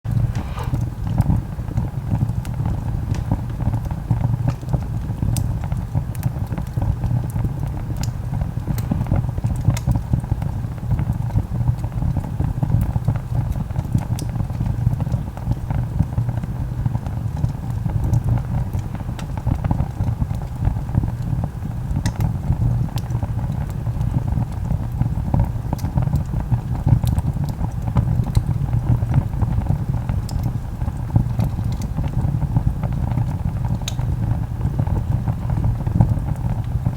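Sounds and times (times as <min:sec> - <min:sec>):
fire crackling and popping: 0:00.1 - 0:36.9
fire roaring: 0:00.1 - 0:36.9.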